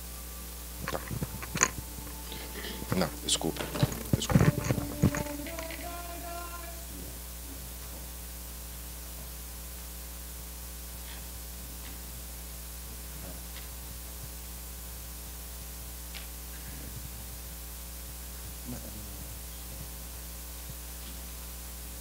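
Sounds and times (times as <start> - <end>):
electrical mains hum: 0.0 - 22.0
sound system hiss: 0.0 - 22.0.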